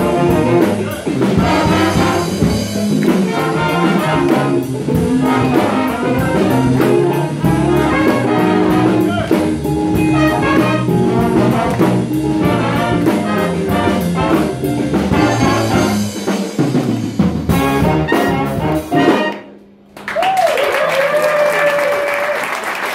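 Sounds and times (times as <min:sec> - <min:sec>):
jazz big band playing: 0:00.0 - 0:20.0.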